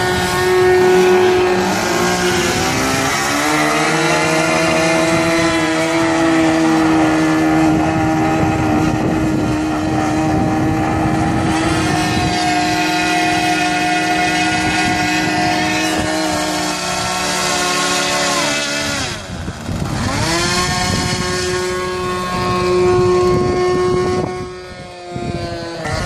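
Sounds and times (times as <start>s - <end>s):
model airplane engine: 0.0s - 26.0s.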